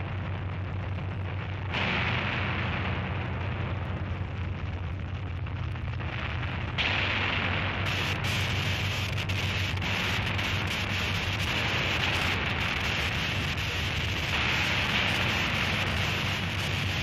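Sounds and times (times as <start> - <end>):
crackling static noise: 0.0 - 17.0
steady low hum: 0.0 - 17.0.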